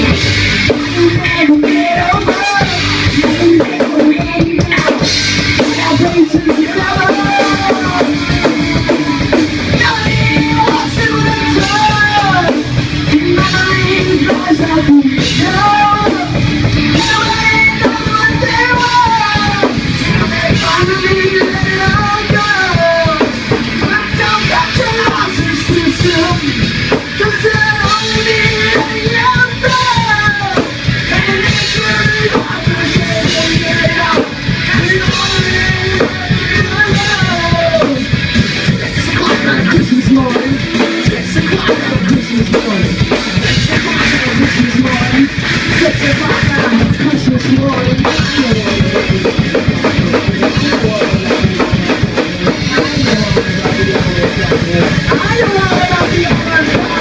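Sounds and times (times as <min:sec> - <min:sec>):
drum kit played hard: 0:00.0 - 0:57.0
person singing into a microphone: 0:00.0 - 0:57.0.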